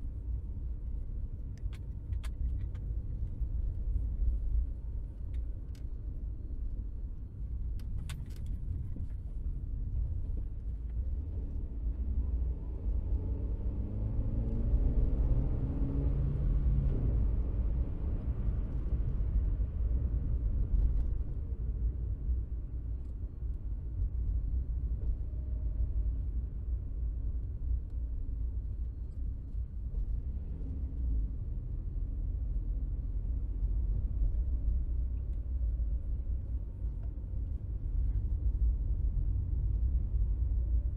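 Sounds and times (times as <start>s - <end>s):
car cabin road rumble: 0.0s - 40.9s.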